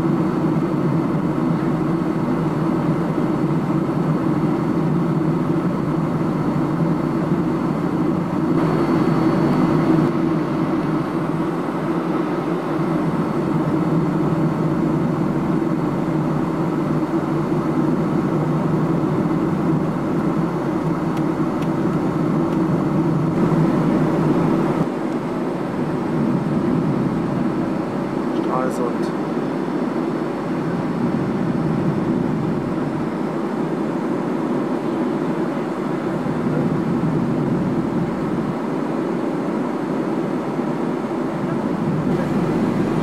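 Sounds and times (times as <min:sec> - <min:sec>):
airliner cabin noise: 0:00.0 - 0:43.0.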